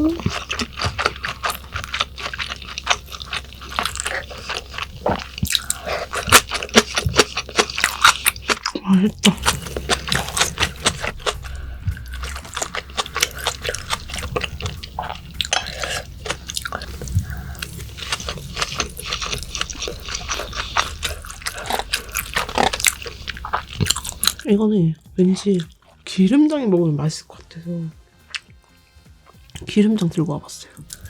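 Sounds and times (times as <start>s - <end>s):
wet chewing mouth smacks: 0.0s - 24.5s, 28.2s - 28.7s.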